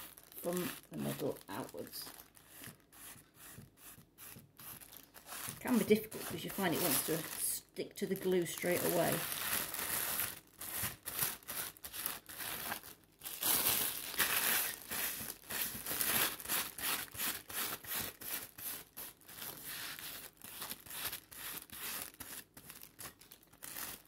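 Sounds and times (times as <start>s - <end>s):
plastic bag crinkling: 0.0s - 2.9s, 4.6s - 24.0s.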